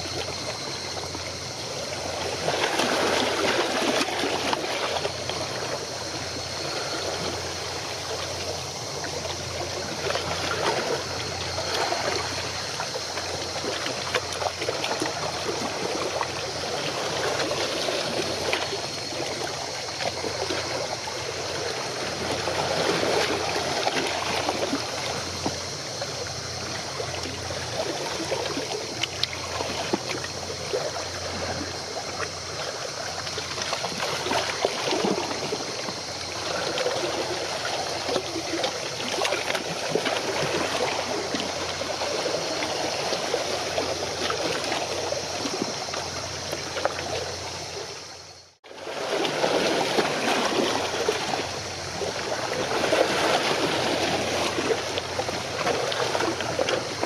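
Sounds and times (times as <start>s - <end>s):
small water splashes: 0.0s - 57.0s
water lapping and trickling: 0.0s - 57.0s.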